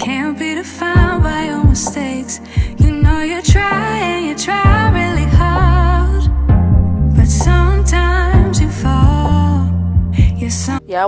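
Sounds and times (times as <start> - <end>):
slow song with vocals: 0.0 - 11.0.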